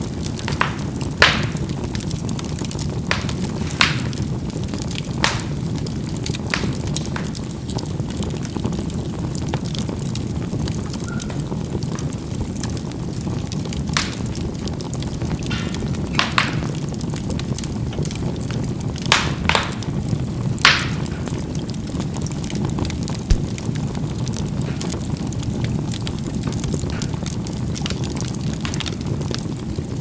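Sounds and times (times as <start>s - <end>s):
charcoal fire rumbling: 0.0s - 30.0s
fire popping and crackling: 0.0s - 30.0s.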